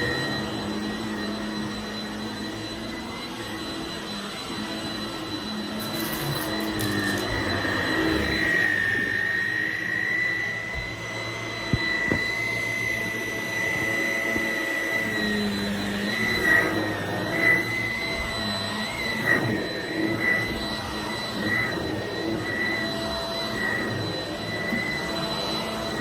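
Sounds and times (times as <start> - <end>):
stick vacuum whining: 0.0 - 26.0.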